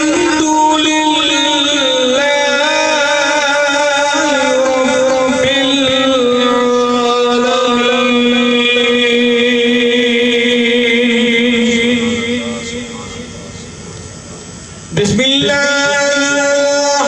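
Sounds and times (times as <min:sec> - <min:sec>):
man chanting recitation: 0:00.0 - 0:13.9, 0:14.9 - 0:17.0.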